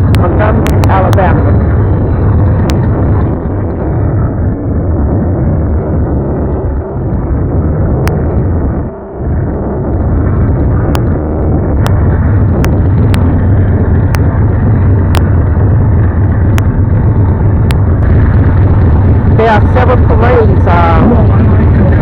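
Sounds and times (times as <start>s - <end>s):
vehicle rumble inside car: 0.0s - 22.0s.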